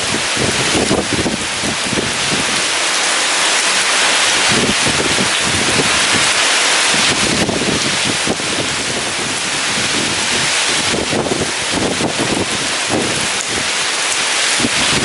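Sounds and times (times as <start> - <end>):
heavy rain pouring: 0.0 - 15.0
strong wind gusting: 0.0 - 15.0.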